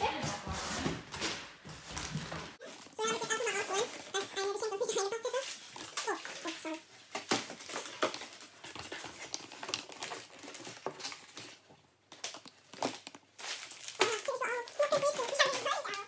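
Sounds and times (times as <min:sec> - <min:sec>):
wrapping paper crinkling: 0:02.0 - 0:16.0.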